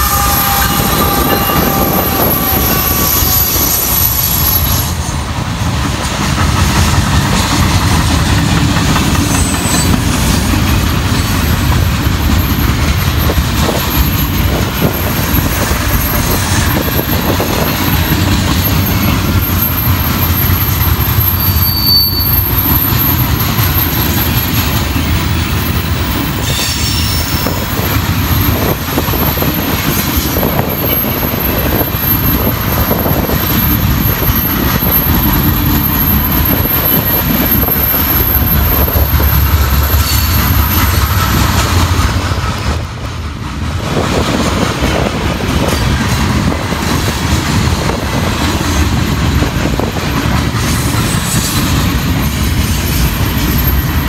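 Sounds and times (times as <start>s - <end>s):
high wheel squeal: 0.0s - 5.3s, 9.2s - 10.4s, 11.0s - 42.7s, 47.6s - 54.0s
freight train wheels rumbling on rail: 0.0s - 54.0s.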